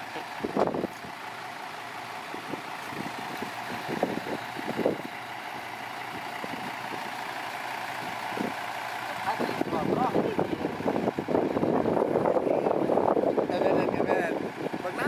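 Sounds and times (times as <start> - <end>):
heavy vehicle diesel engine running: 0.0 - 15.0.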